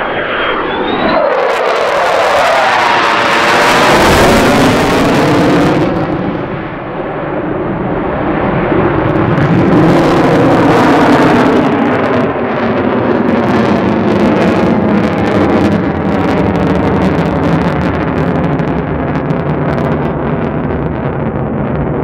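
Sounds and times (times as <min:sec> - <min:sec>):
jet passing with afterburner: 0:00.0 - 0:22.0.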